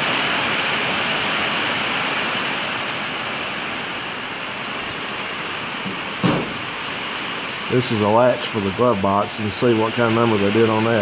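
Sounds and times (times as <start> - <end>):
rain on a metal building: 0.0 - 11.0.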